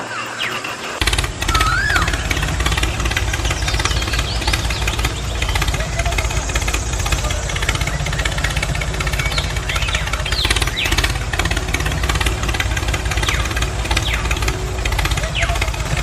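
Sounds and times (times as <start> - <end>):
small engine chugging: 0.0 - 16.0.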